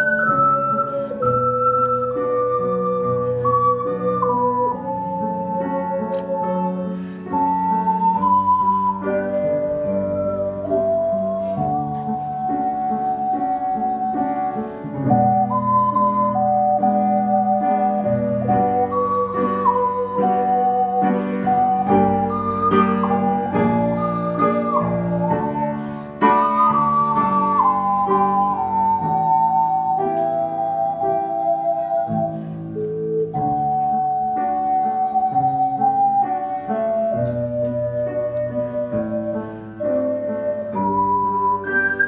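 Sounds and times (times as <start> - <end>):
ocarinas playing melody: 0.0 - 42.0
piano chords: 0.0 - 42.0.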